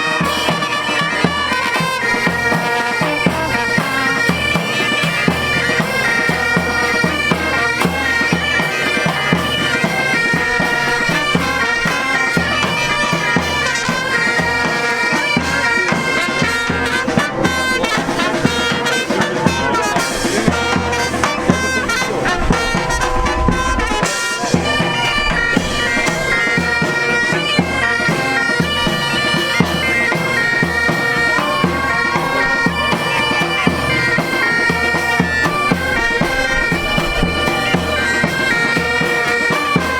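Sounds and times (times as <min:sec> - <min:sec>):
bagpipes playing: 0:00.0 - 0:39.9
drums beating: 0:00.0 - 0:39.9.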